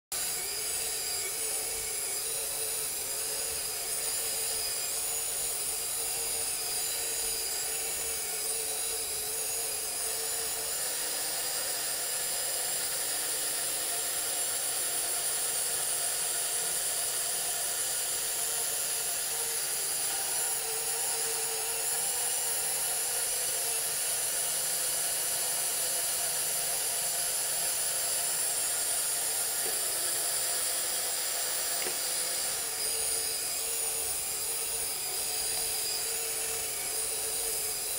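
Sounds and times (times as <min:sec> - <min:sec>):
toy motor whirring: 0:00.1 - 0:37.9.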